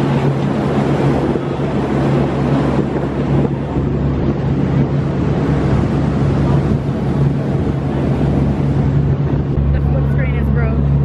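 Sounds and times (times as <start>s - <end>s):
boat engine droning: 0.0s - 11.0s
water noise: 0.0s - 11.0s
wind rushing: 0.0s - 11.0s.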